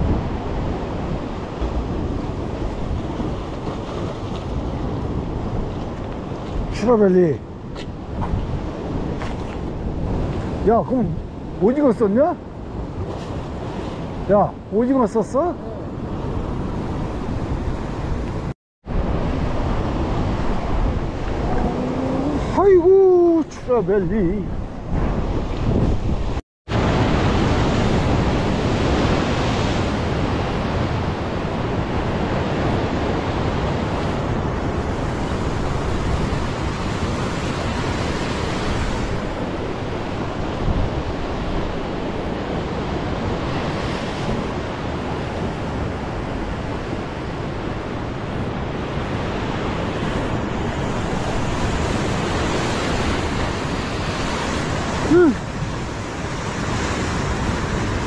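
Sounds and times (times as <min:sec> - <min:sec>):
ocean surf washing over rocks: 0:00.0 - 0:58.0
wind buffeting microphone: 0:00.0 - 0:58.0.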